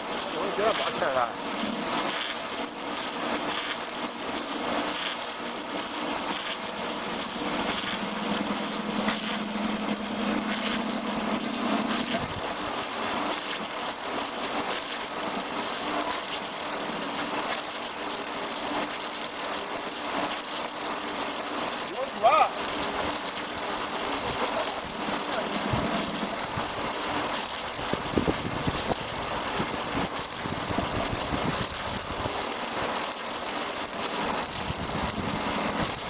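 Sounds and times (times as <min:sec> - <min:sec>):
log milling machine running: 0:00.0 - 0:36.0
low hum: 0:00.0 - 0:36.0.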